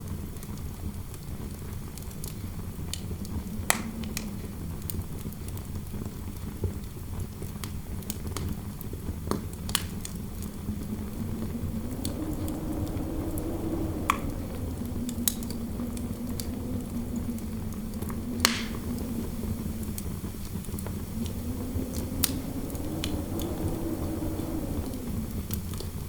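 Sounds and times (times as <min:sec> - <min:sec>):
fire popping: 0:01.6 - 0:26.0
fireplace crackling: 0:01.9 - 0:06.8, 0:07.4 - 0:26.0
low wind howling: 0:02.2 - 0:06.5, 0:09.0 - 0:26.0.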